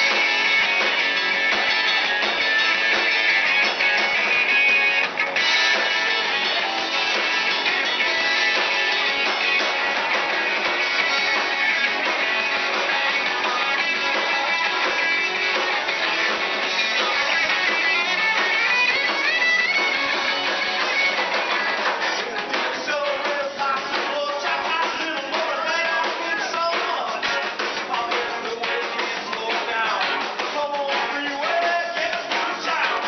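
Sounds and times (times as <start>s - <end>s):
drum hits: 0.0s - 33.0s
live rock band playing: 0.0s - 33.0s.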